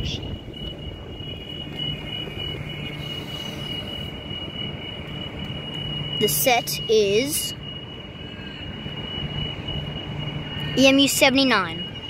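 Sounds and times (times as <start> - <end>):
high-pitched tone: 0.0 - 12.0
train passing through station: 0.0 - 12.0.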